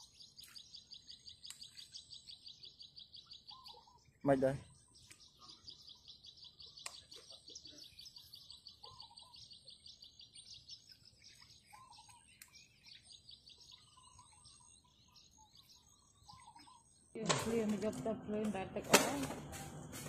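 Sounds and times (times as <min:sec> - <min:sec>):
high bird chirps: 0:00.0 - 0:18.9.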